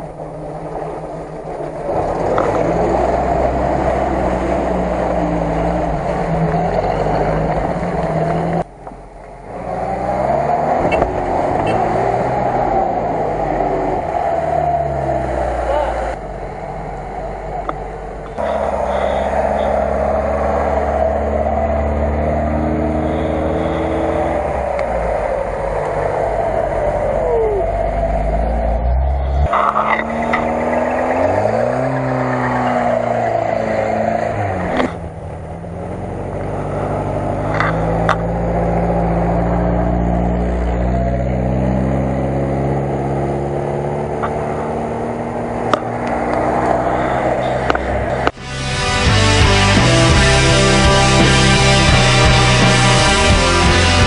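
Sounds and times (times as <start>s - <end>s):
car engines revving under load: 0.0s - 54.0s.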